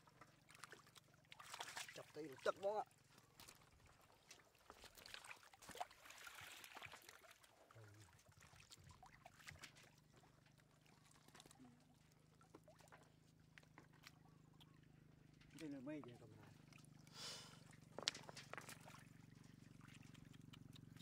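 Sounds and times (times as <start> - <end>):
shallow water splashing: 0.1 - 21.0.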